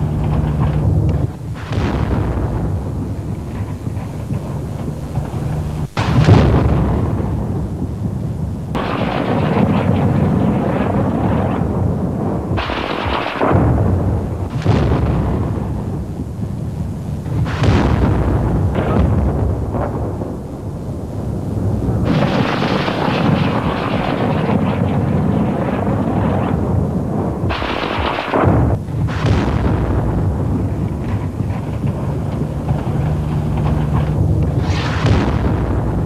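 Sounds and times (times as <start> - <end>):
exploding shells: 0.0 - 36.0
long rolling rumble: 0.0 - 36.0.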